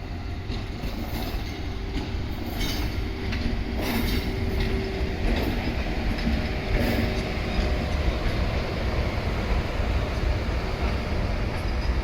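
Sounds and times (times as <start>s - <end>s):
train rumble and hum: 0.0s - 12.0s
wheels clacking over rail joints: 0.4s - 12.0s.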